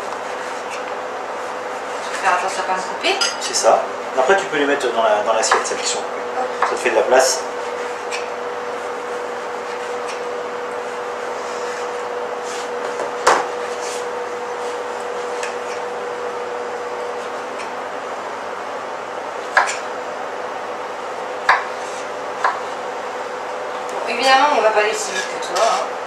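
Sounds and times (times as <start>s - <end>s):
steady background hum: 0.0s - 26.0s.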